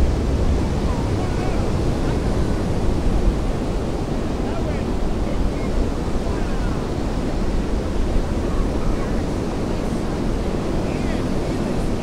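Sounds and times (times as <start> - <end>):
ocean surf rushing: 0.0 - 12.0
wind on microphone: 0.0 - 12.0.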